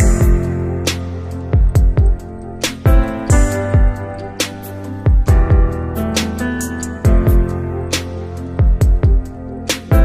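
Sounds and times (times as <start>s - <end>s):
sustained synth chords: 0.0s - 10.0s.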